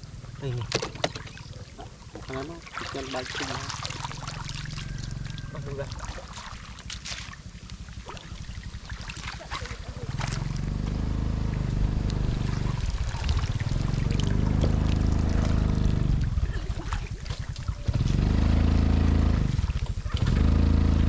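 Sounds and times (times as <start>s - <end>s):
water trickling: 0.0s - 20.8s
low engine hum: 0.0s - 21.0s.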